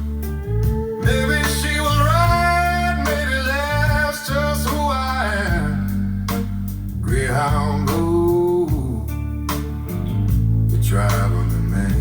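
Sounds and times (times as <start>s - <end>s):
blues guitar lead: 0.0s - 12.0s
steady bass line: 0.0s - 12.0s.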